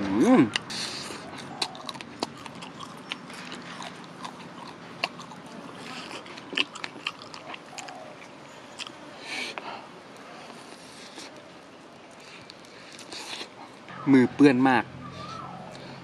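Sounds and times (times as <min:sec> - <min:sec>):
chewing food close-up: 0:00.5 - 0:09.6, 0:10.2 - 0:13.8.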